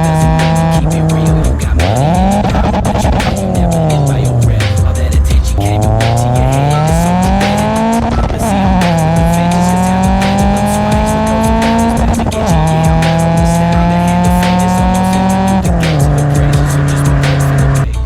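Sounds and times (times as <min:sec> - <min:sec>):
car engine accelerating through gears: 0:00.0 - 0:17.9.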